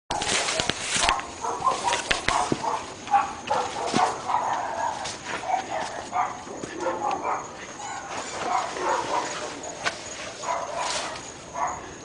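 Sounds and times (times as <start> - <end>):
dogs barking: 0.1 - 12.0.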